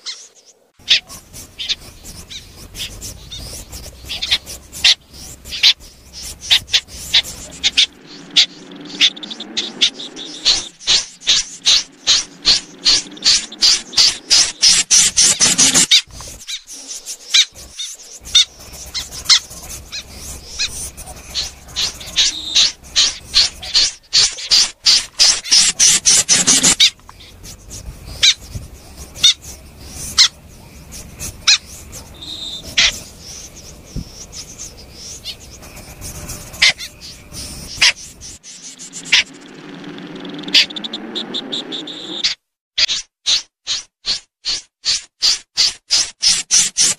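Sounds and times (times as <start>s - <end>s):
bird calling sharp high notes: 0.8s - 30.4s, 31.0s - 43.9s.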